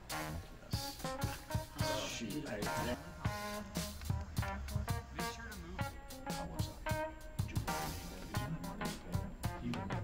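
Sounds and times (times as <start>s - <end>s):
music with steady beat: 0.0s - 10.0s
pitched instrumental notes: 0.0s - 10.0s.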